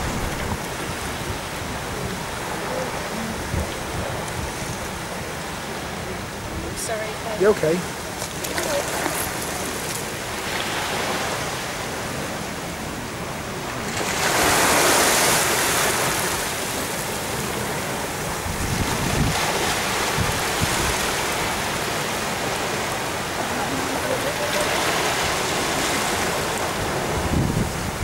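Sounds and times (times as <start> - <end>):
waves washing against wall: 0.0 - 28.0
wind rumbling on microphone: 0.0 - 28.0.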